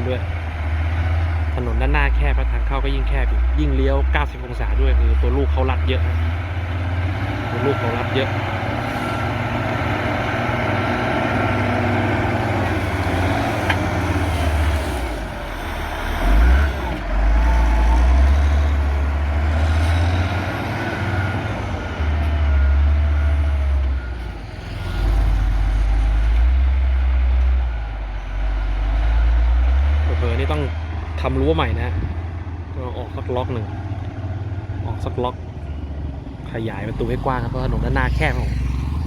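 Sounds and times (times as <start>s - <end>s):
diesel engine rumbling: 0.0s - 39.0s.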